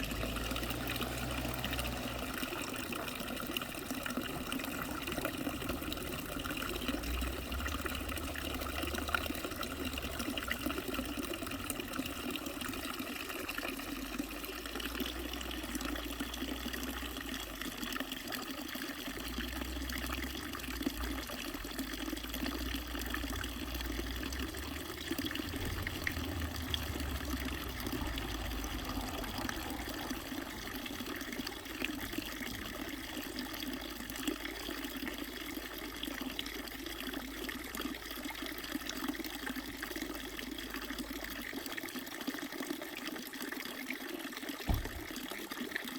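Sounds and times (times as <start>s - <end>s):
flowing water: 0.0s - 45.9s.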